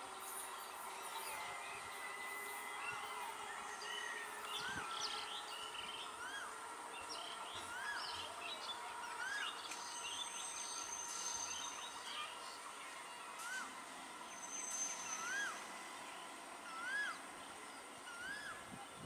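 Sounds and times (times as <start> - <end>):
faint background hum: 0.0 - 19.0
thin high whine: 0.0 - 19.0.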